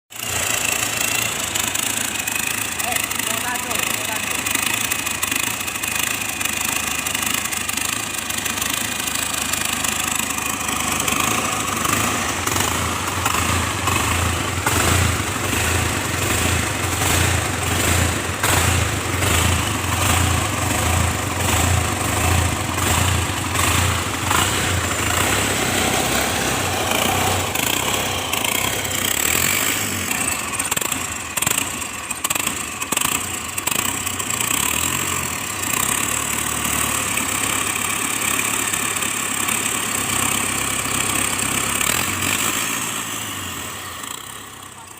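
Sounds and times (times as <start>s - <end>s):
engine idling with hunting revs: 0.1s - 44.9s.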